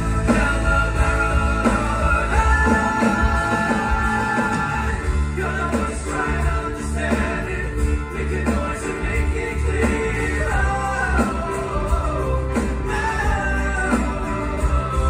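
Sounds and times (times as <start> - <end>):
live rock and roll band: 0.0 - 15.0
person singing: 0.0 - 15.0.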